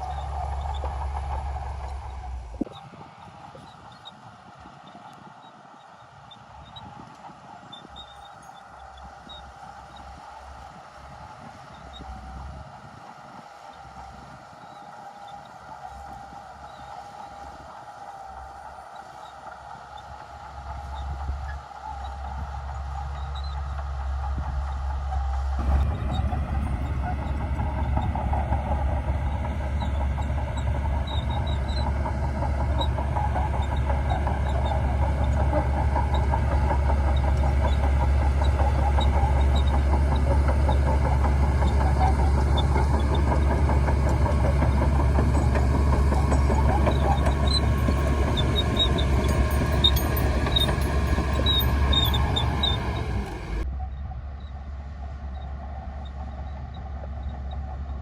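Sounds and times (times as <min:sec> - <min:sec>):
mechanical rattle of tracks: 0:00.0 - 0:53.7
bulldozer diesel engine under load: 0:00.0 - 0:58.0.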